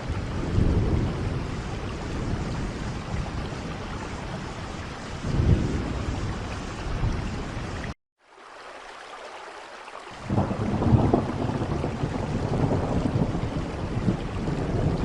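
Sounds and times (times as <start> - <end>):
thunder rumbling: 0.0 - 7.9, 10.2 - 15.0
rain falling: 0.0 - 15.0.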